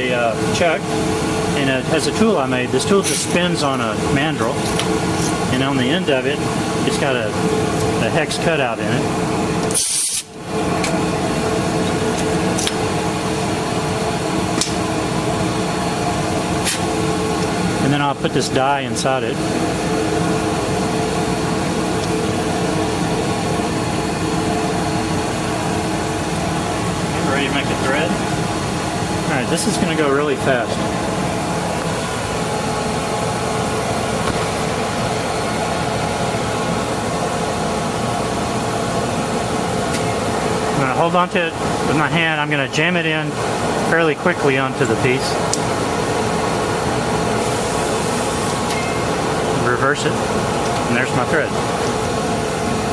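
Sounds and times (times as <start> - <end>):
shop machinery humming: 0.0 - 52.9
metal lathe running: 0.3 - 9.8, 10.4 - 52.9.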